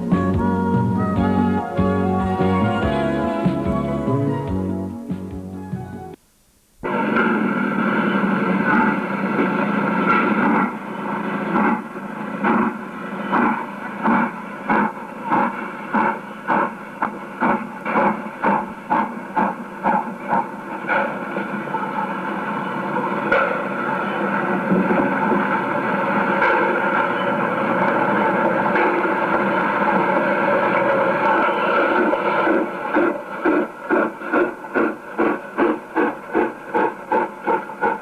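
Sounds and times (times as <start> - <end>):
steam locomotive exhaust beats: 0.0 - 6.2, 6.8 - 38.0
steady steam hiss: 0.0 - 38.0.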